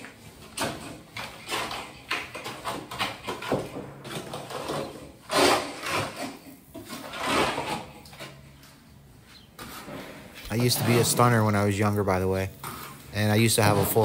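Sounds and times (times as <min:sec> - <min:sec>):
trowel scraping mortar: 0:00.0 - 0:08.5, 0:09.6 - 0:14.0.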